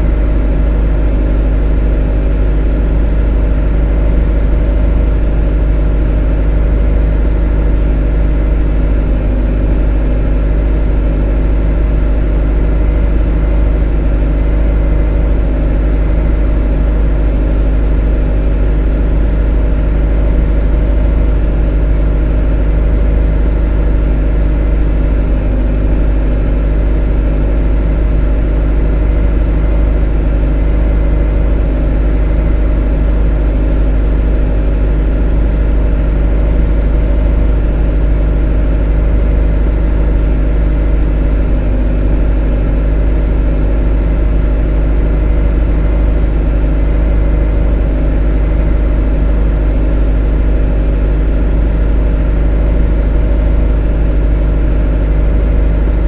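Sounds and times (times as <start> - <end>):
motor running: 0.0 - 56.0.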